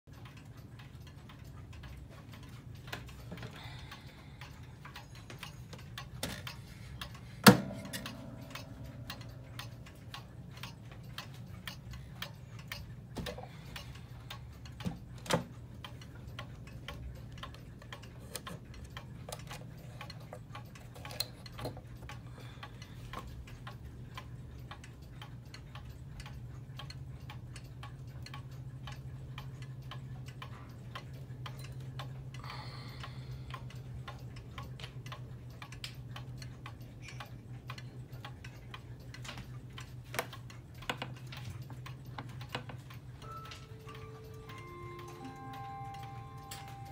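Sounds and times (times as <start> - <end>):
wall clock ticking: 0.1 - 46.9.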